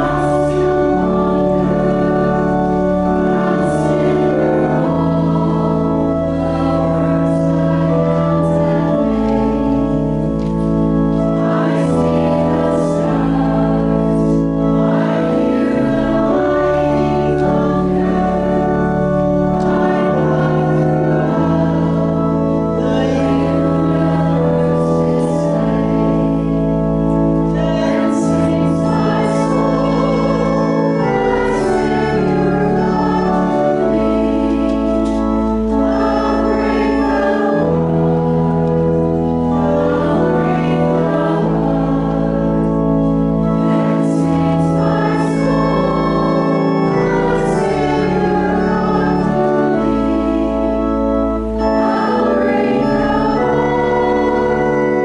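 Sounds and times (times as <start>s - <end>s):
voices singing: 0.0s - 26.7s, 27.4s - 55.0s
church organ playing a hymn: 0.0s - 55.0s.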